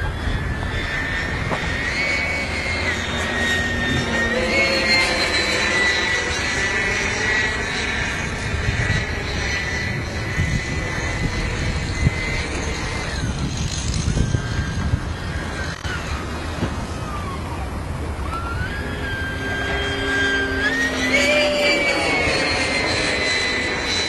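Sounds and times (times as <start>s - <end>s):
low rumbling noise: 0.0s - 24.0s
model jet fan whining: 0.0s - 24.0s.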